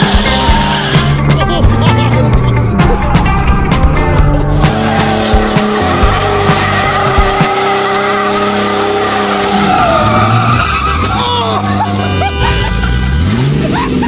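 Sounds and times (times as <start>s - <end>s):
tires squealing on concrete: 0.0s - 1.5s, 2.4s - 14.0s
engine running hard: 0.0s - 14.0s.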